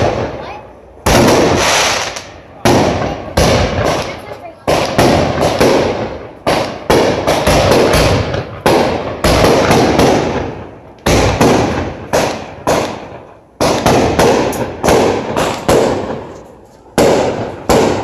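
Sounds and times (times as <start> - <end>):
fireworks bangs echoing: 0.0 - 18.0.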